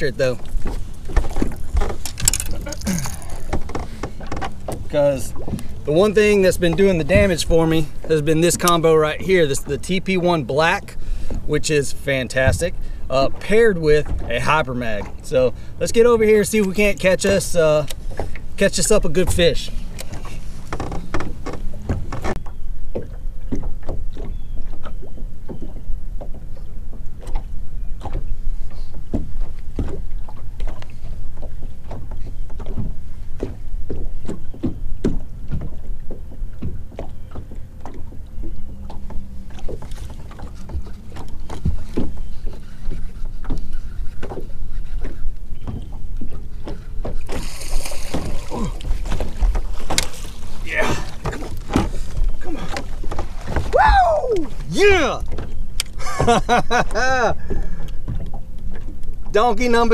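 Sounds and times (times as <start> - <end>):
small waves slapping boat hull: 0.0 - 59.9.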